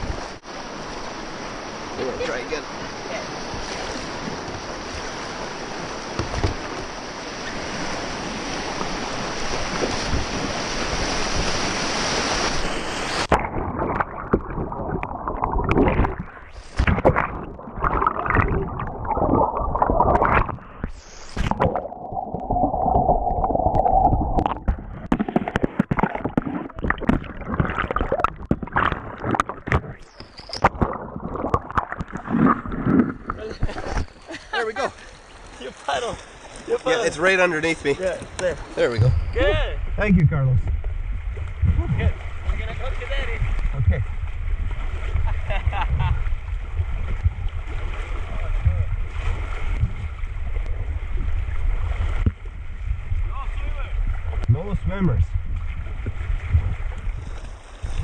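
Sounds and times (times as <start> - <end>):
water gurgling and splashing: 0.0 - 34.3, 34.9 - 58.0
river water rushing around kayak: 0.0 - 58.0.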